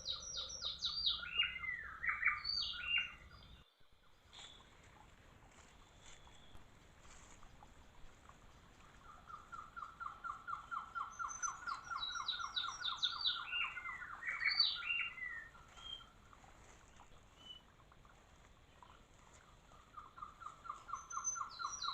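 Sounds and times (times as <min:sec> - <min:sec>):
bird song of repeated notes: 0:00.0 - 0:21.9.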